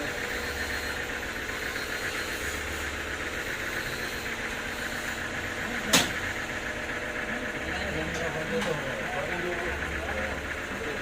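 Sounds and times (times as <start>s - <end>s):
sawmill machinery humming and rattling: 0.0s - 11.0s.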